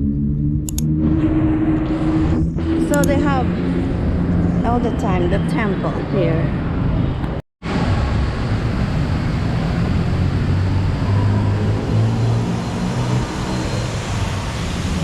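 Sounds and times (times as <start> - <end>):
low engine hum: 0.0 - 15.0
road traffic rushing: 0.0 - 15.0.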